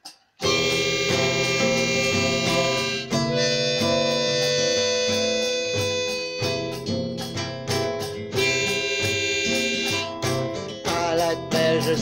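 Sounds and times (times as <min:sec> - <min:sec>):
acoustic guitar strumming: 0:00.0 - 0:12.0
harmonica long notes: 0:00.4 - 0:12.0.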